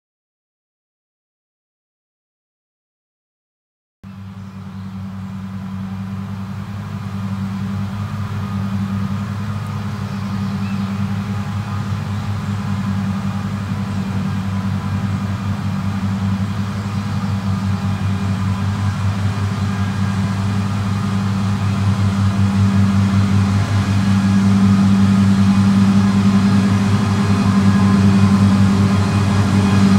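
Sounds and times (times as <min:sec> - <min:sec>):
mower diesel engine running: 0:04.1 - 0:29.9.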